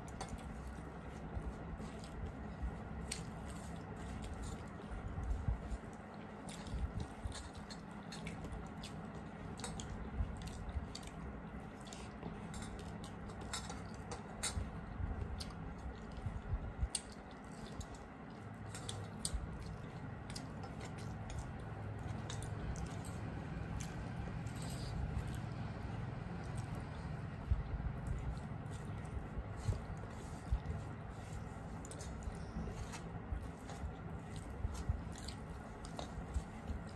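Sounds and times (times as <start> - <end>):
chewing and lip smacks: 0.0 - 36.9.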